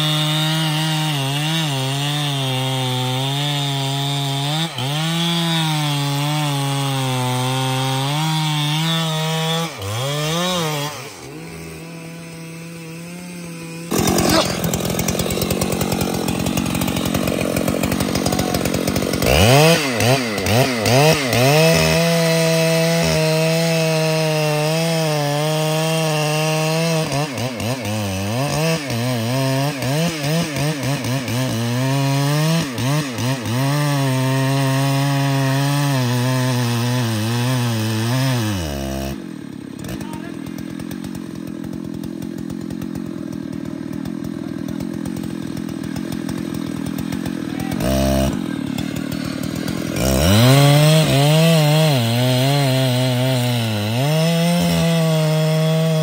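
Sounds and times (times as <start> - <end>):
chainsaw cutting wood: 0.0 - 56.0
chainsaw running: 0.0 - 56.0.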